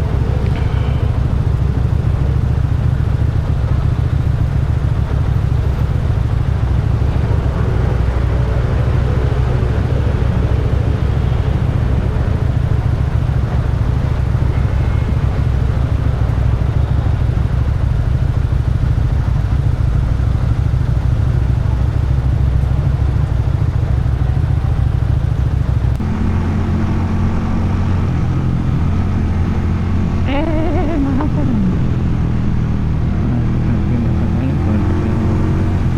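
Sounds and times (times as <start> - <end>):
motorcycle engine and exhaust: 0.0 - 35.9.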